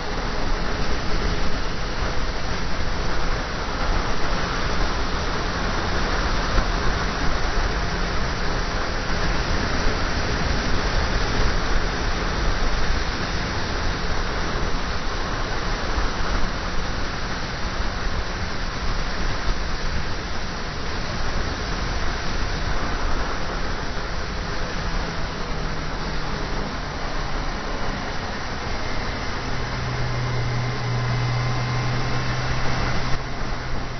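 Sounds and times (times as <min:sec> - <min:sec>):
wind rushing on microphone: 0:00.0 - 0:33.9.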